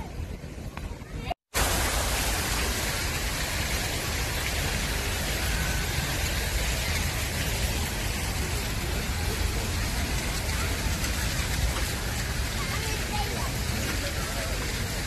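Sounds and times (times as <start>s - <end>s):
fountain water splashing: 1.5s - 15.0s.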